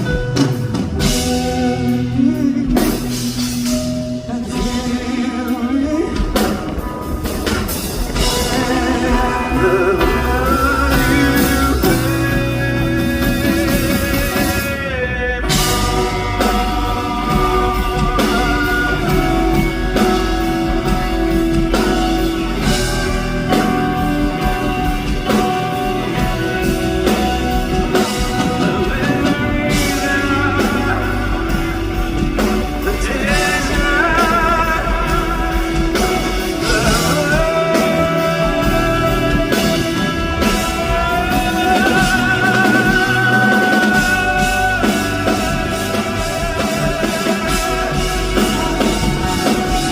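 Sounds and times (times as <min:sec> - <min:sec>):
live band playing: 0:00.0 - 0:49.9
person singing wordlessly: 0:01.0 - 0:07.0, 0:08.0 - 0:49.9.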